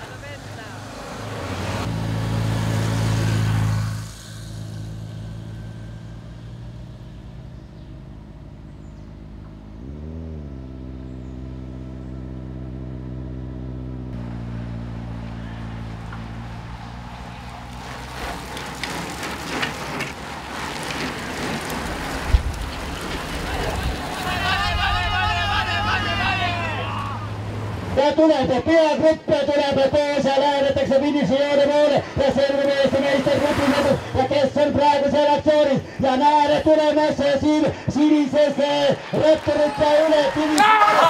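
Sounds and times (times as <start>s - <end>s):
motorcycle engine passing: 0.0s - 28.5s, 29.5s - 41.0s
engine hum with rev: 0.0s - 28.6s, 29.3s - 41.0s
bicycles clicking and rushing: 0.0s - 41.0s.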